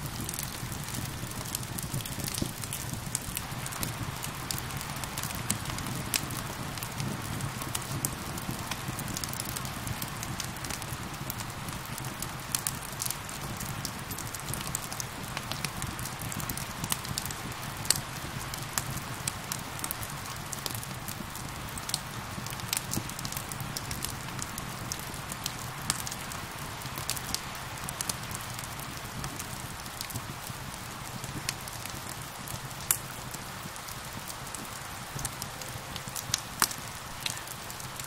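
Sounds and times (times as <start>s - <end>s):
steady rain: 0.0s - 38.0s
wood fire crackling: 0.0s - 38.0s.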